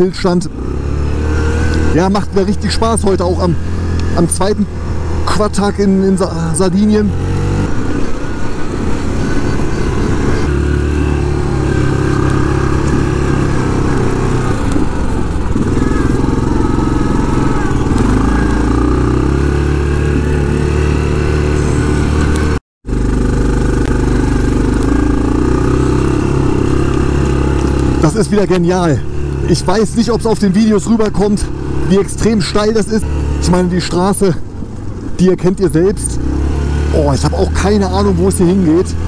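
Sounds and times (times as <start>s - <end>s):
quad engine running: 0.0s - 39.0s.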